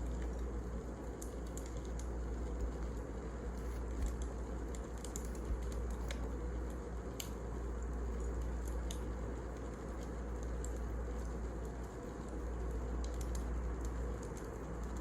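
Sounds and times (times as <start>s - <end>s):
wood fire crackling and popping: 0.1s - 15.0s.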